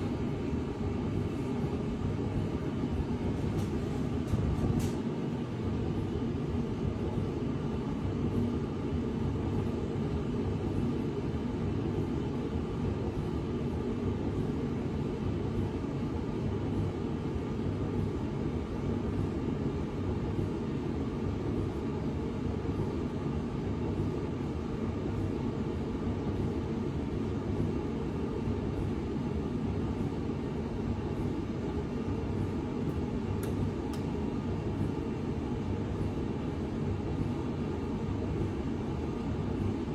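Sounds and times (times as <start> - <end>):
faint steady hum: 0.0 - 39.9
machine low rumble: 0.0 - 39.9.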